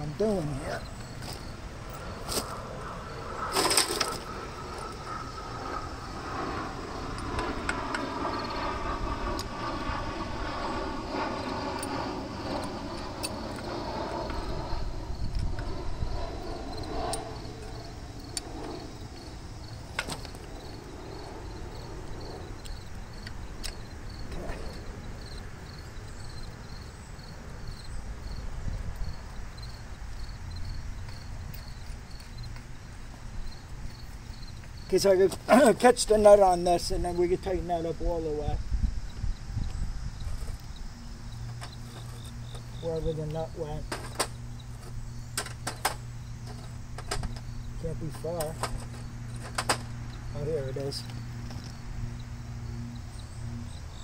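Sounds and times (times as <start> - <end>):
distant engine: 0.0 - 54.0
insects chirping: 0.0 - 54.0.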